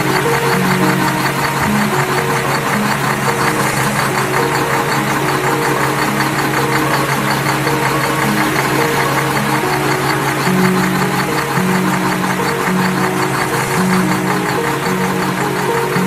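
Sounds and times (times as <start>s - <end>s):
background music with held notes: 0.0s - 16.0s
engine knocking chug: 0.0s - 16.0s.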